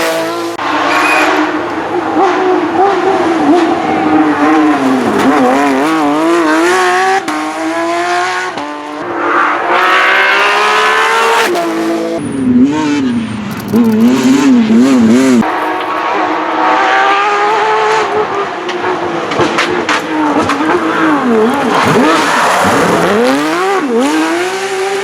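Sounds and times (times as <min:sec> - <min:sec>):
rally car engine revving hard: 0:00.0 - 0:25.0.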